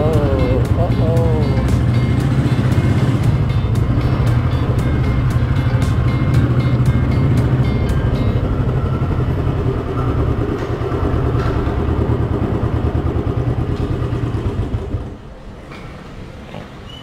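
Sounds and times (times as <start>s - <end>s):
motorcycle engine running: 0.0s - 15.3s.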